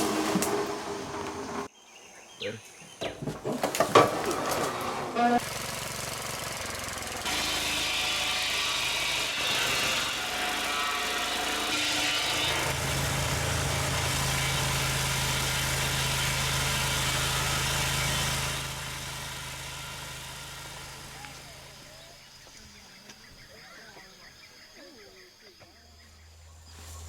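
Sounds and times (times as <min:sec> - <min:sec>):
engine humming: 0:04.1 - 0:27.0.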